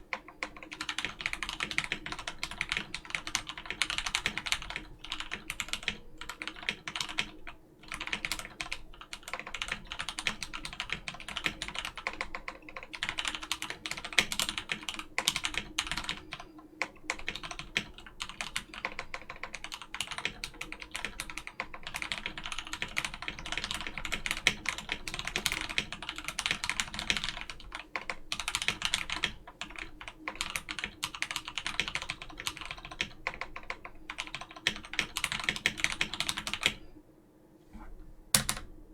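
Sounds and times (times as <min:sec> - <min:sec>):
mechanical keyboard typing: 0:00.1 - 0:36.8, 0:38.4 - 0:38.7.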